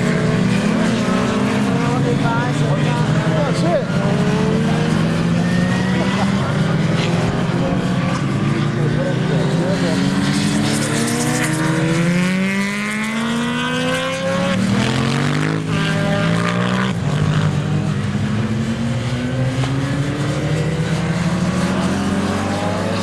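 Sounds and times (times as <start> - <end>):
vehicle engine accelerating: 0.0 - 23.0.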